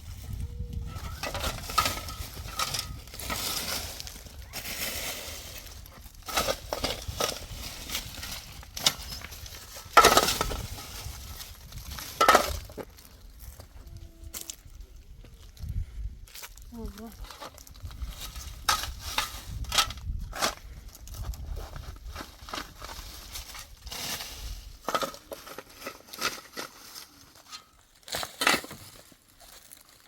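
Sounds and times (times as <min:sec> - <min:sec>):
crunching and scraping: 0:00.0 - 0:30.0.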